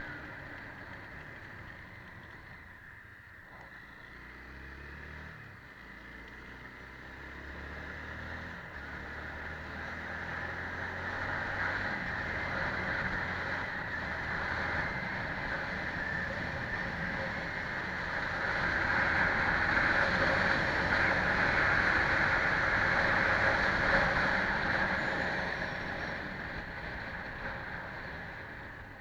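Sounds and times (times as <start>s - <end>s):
road noise: 0.0s - 29.0s
truck diesel engine driving: 0.0s - 29.0s.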